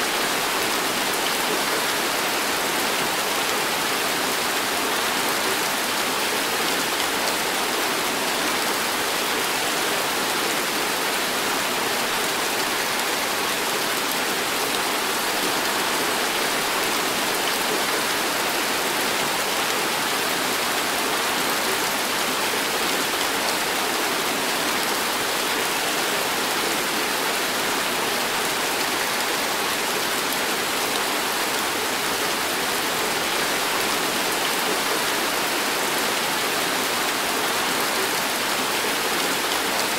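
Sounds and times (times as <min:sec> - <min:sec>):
heavy rain on pavement: 0:00.0 - 0:39.9.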